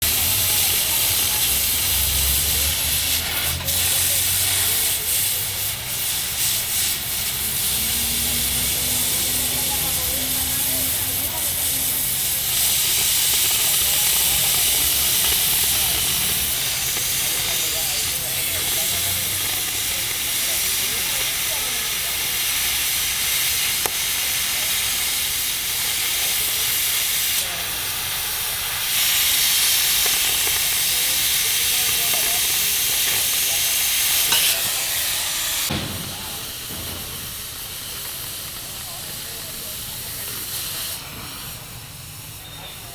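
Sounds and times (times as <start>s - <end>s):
cutting torch hissing: 0.0s - 42.9s.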